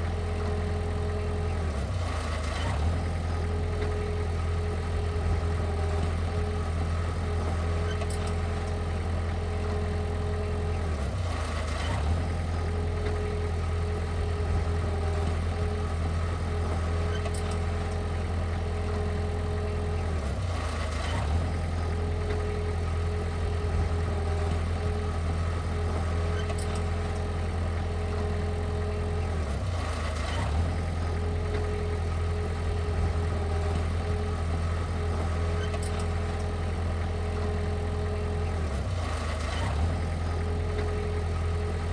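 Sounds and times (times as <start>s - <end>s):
heavy machine engine humming: 0.0s - 41.9s.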